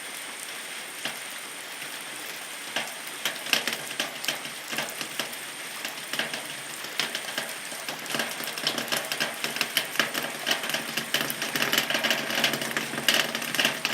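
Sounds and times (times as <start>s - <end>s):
rain on a metal roof: 0.0s - 13.9s.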